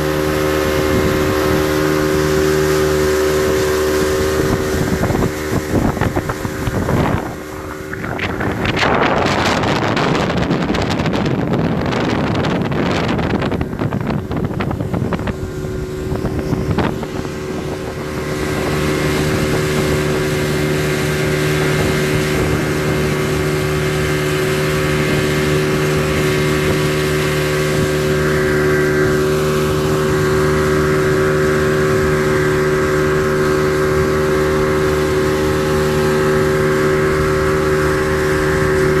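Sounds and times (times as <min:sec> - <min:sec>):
speedboat engine running: 0:00.0 - 0:39.0
wind buffeting microphone: 0:00.0 - 0:39.0.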